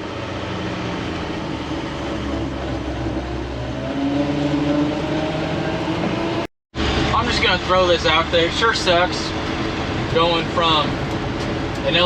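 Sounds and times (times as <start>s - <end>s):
rising whine: 0.0s - 11.8s
truck engine drone: 0.0s - 12.0s.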